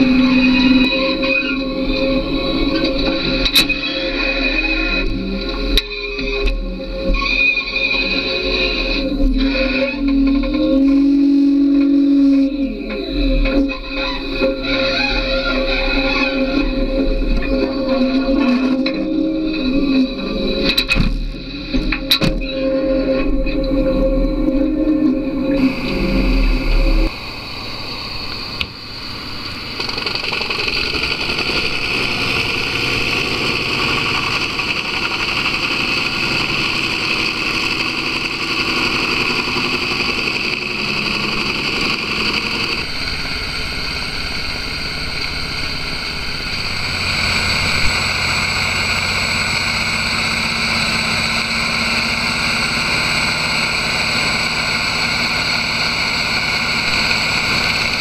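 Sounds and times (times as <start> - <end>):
grinder chipping logs: 0.0 - 23.4, 29.5 - 58.0
high whine: 0.0 - 58.0.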